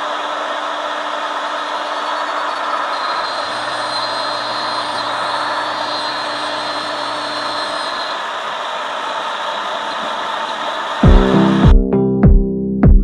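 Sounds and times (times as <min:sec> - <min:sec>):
wood router cutting hiss: 0:00.0 - 0:11.6.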